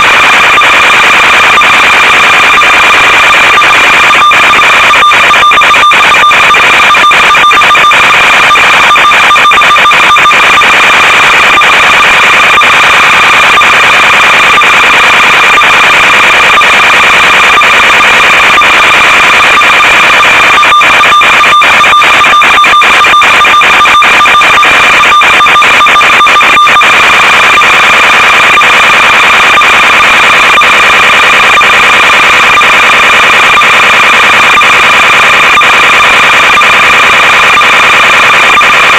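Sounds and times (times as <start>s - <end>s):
static crackling: 0.0s - 38.9s.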